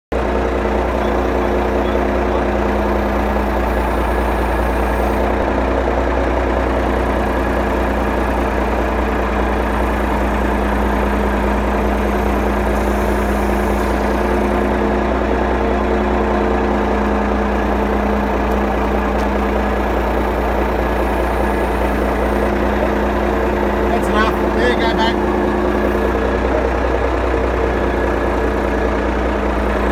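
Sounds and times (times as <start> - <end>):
loader engine idling: 0.1 - 29.9.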